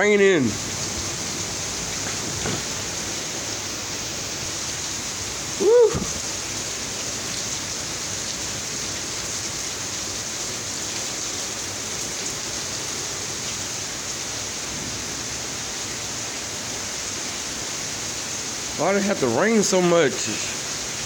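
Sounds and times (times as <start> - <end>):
heavy rain on pavement: 0.0 - 21.0.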